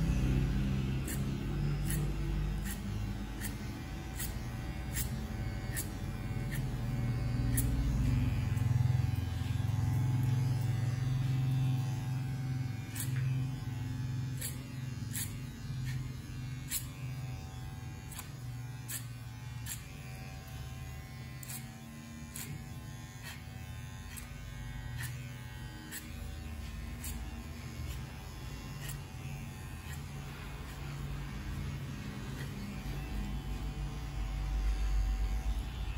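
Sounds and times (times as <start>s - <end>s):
electric hair clipper running: 0.0s - 35.9s.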